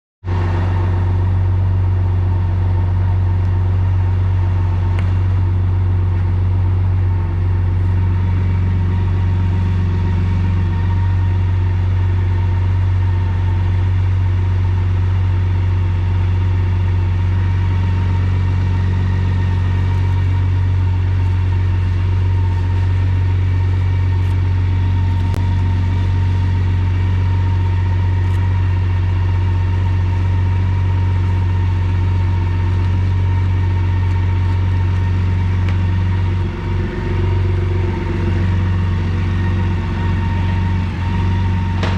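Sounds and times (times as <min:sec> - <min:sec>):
motorcycle engine idling: 0:00.3 - 0:41.9.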